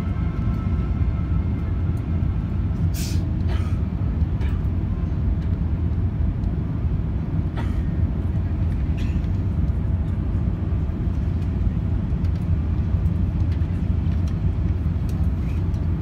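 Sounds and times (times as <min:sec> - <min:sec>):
low rumble of aircraft cabin noise: 0:00.0 - 0:16.0.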